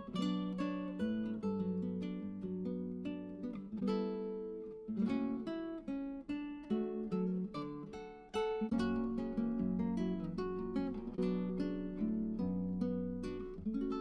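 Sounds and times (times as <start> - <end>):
acoustic guitar picking and strumming: 0.0 - 14.0.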